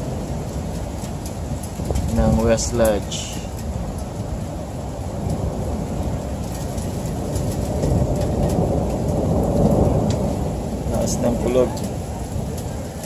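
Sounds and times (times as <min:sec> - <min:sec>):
loud thunder rumbling: 0:00.0 - 0:13.0
steady rain: 0:00.0 - 0:13.0.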